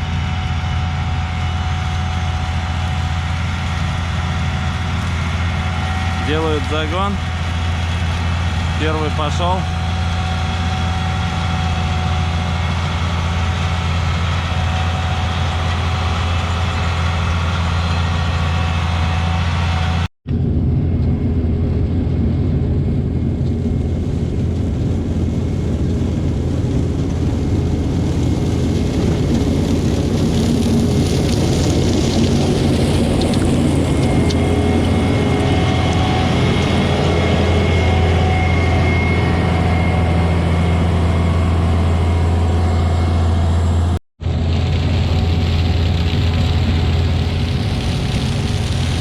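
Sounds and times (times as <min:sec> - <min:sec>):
diesel farm machinery humming: 0:00.0 - 0:49.0.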